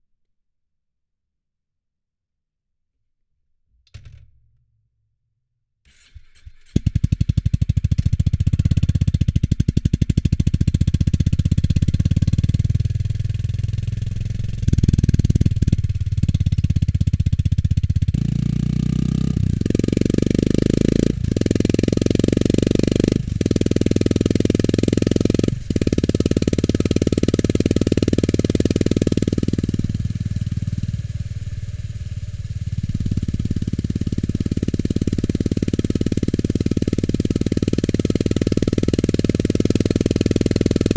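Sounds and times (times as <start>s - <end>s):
motorcycle engine exhaust: 6.7s - 40.9s.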